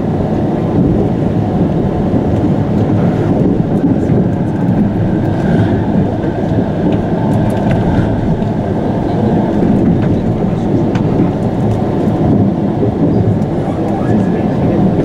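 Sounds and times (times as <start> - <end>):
monorail car rumbling: 0.0 - 15.0.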